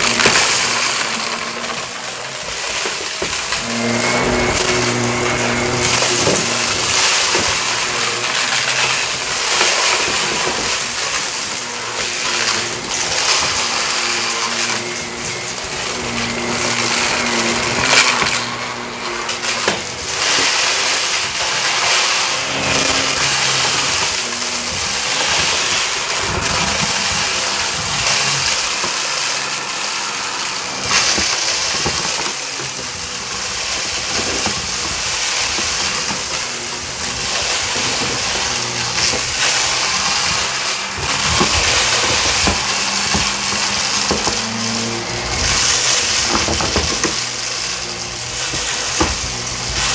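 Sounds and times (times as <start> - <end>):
grit crackling in vacuum: 0.0 - 49.9
vacuum cleaner running on carpet: 0.0 - 49.9.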